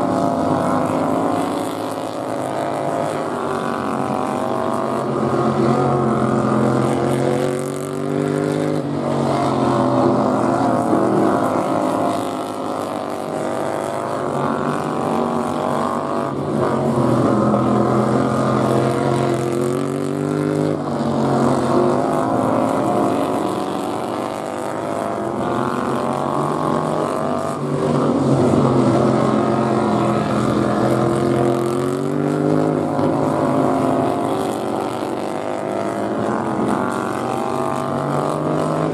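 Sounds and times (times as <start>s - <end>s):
racing mower engines: 0.0s - 38.9s.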